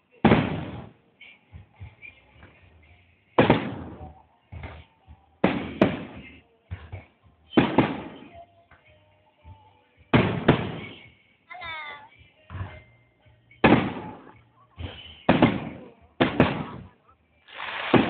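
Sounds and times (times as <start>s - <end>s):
fireworks bursting with echoes: 0.0s - 11.4s, 13.5s - 18.0s.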